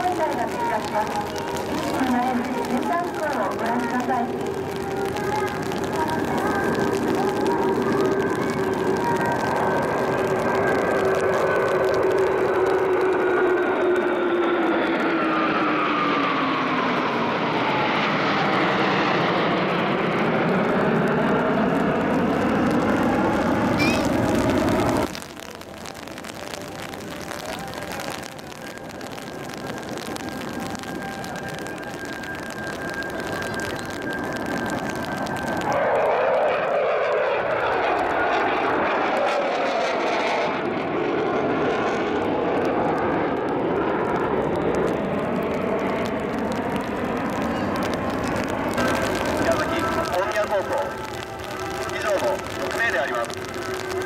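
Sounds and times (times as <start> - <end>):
fighter jets flying over: 0.0 - 54.0.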